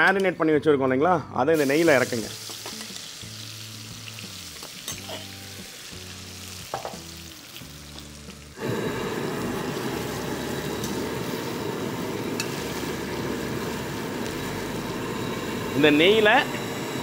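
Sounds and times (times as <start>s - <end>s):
soft background music: 0.0s - 17.0s
food frying and sizzling: 1.6s - 17.0s.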